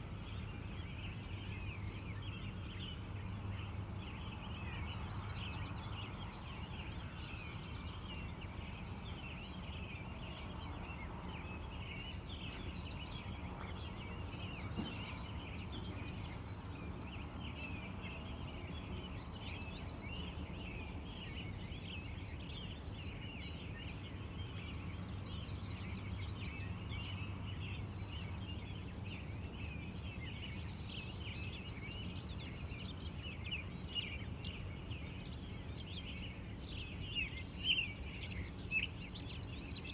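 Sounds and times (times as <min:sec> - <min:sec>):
birds chirping and trilling: 0:00.7 - 0:39.9.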